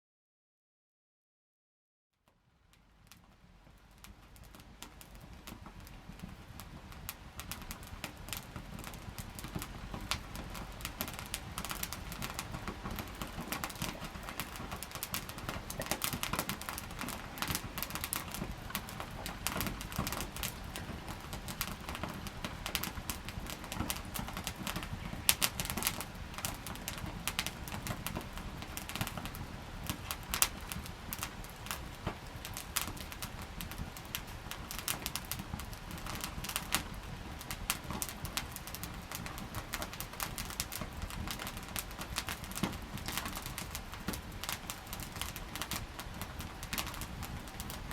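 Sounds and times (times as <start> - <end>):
campfire crackling and popping: 2.7 - 47.9.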